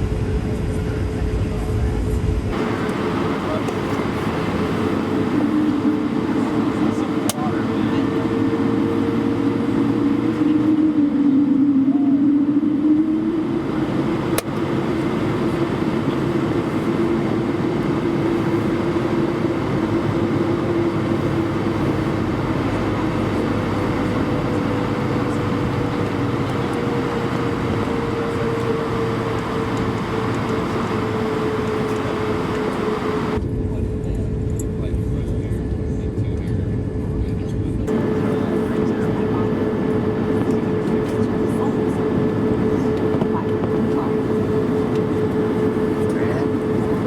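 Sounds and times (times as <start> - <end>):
jet engines humming at idle: 0.0 - 47.0.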